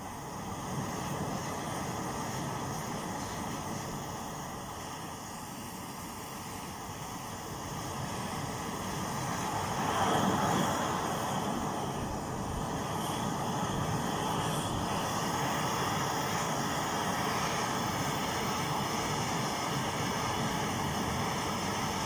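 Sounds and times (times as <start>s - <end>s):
petrol burners hissing: 0.0s - 22.0s.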